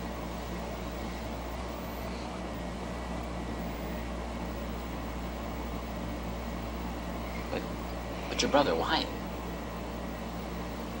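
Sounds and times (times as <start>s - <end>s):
background hiss: 0.0s - 11.0s
low electrical hum: 0.0s - 11.0s.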